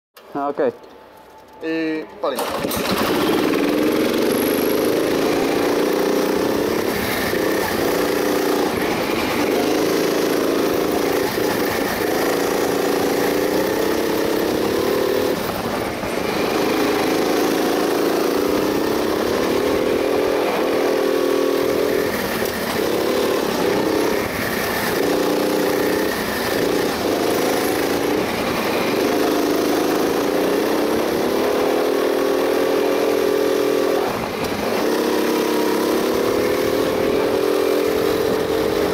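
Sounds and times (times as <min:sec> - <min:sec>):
go-kart engine revving: 0:02.4 - 0:38.9.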